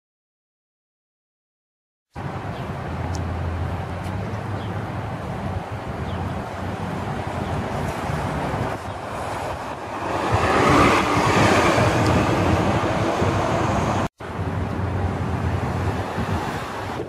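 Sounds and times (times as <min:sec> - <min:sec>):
city street traffic: 0:02.1 - 0:17.0
bus engine and tyres passing: 0:02.2 - 0:17.0.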